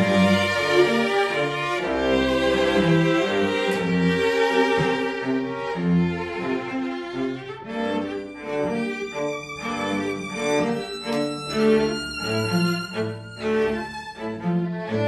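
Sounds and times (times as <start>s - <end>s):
string quartet playing a tango: 0.0s - 15.0s.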